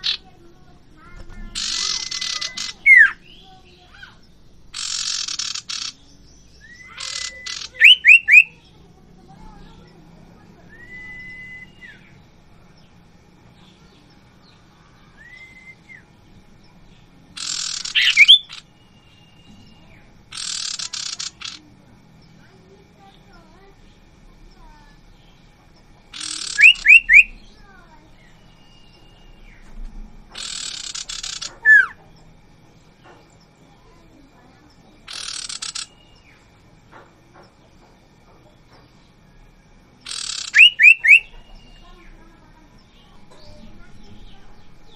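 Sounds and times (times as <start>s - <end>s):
harsh rasping bird chatter: 0.0s - 44.9s.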